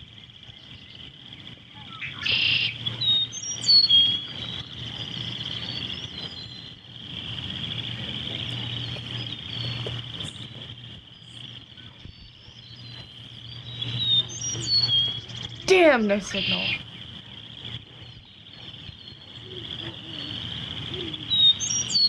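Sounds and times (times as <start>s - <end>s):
low hum: 0.0s - 22.0s
steady high drone: 0.0s - 22.0s
birds chirping and calling: 0.4s - 22.0s.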